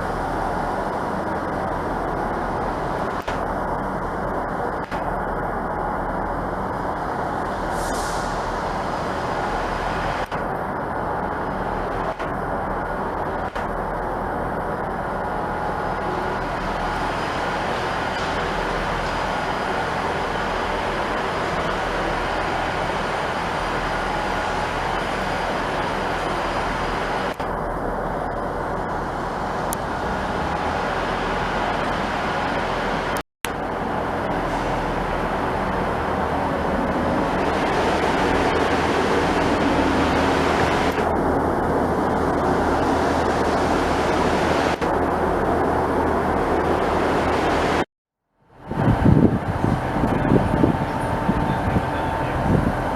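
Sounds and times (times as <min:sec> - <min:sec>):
rumbling vehicle noise: 0:00.0 - 0:52.9.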